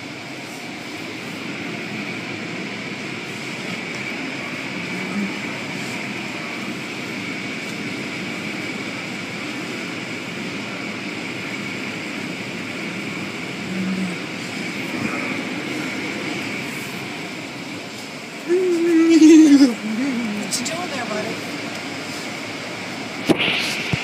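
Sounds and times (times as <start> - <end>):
faint high machine whine: 0.0 - 24.0.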